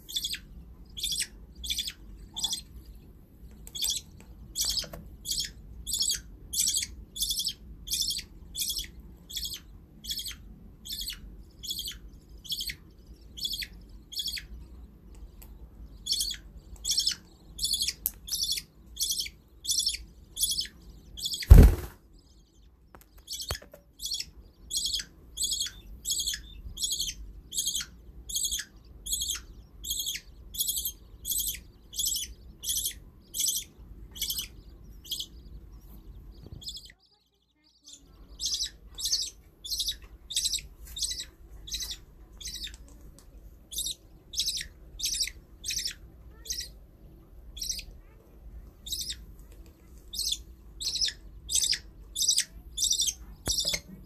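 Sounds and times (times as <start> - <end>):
bird chicks chirping: 0.0 - 54.0.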